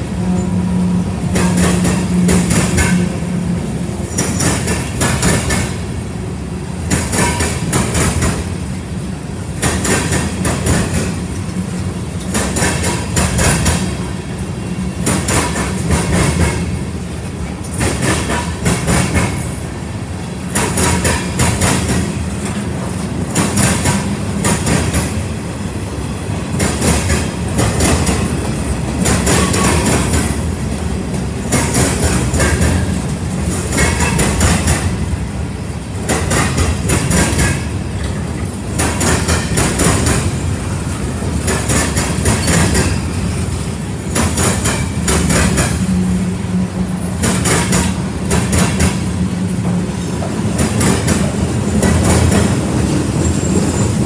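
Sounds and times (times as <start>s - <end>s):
freight train rumble: 0.0s - 54.0s
train wheels clicking over rail joints: 1.2s - 25.4s, 26.2s - 54.0s.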